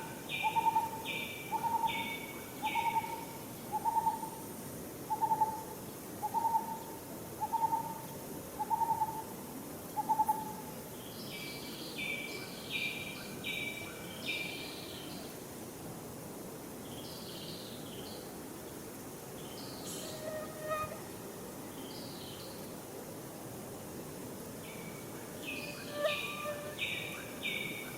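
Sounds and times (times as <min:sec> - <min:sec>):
steady outdoor hiss: 0:00.0 - 0:27.9.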